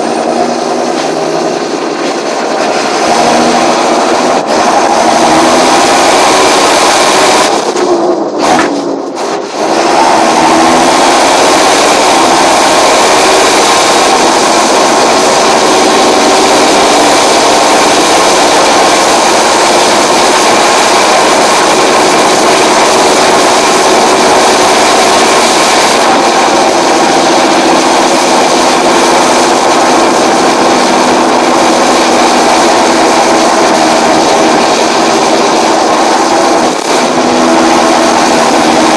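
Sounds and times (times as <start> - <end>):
diesel tractor engine under load: 0.0 - 38.9
turbocharger whistle: 2.5 - 38.9.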